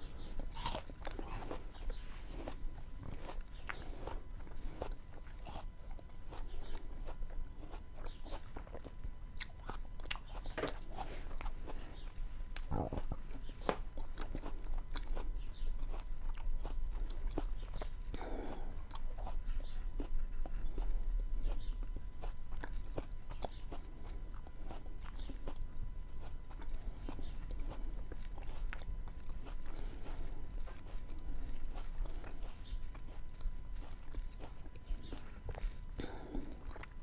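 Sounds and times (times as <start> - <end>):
wet chewing mouth clicks: 0.3 - 37.0.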